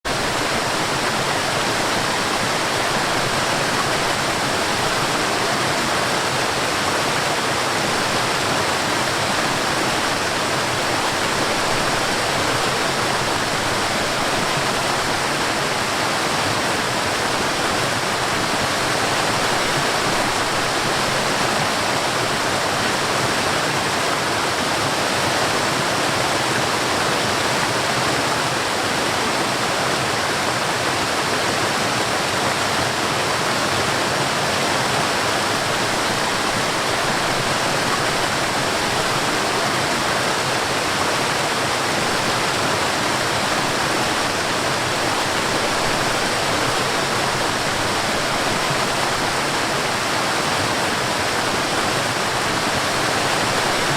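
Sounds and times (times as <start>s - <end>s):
stream rushing over rocks: 0.0s - 53.9s.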